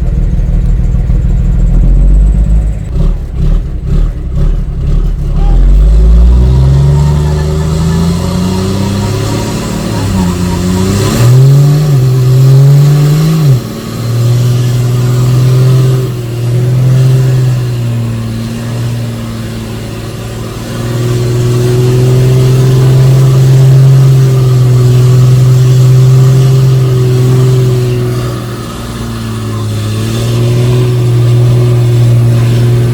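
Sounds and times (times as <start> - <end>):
diesel truck engine running hard: 0.0 - 32.9.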